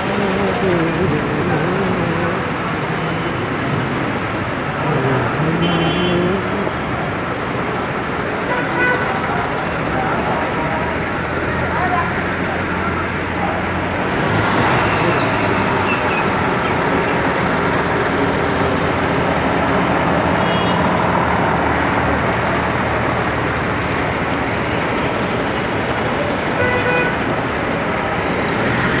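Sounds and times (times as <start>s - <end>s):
diesel engines humming: 0.0s - 29.0s.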